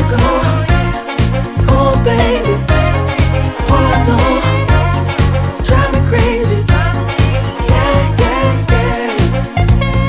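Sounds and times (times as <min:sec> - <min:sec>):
electro-swing music: 0:00.0 - 0:10.0.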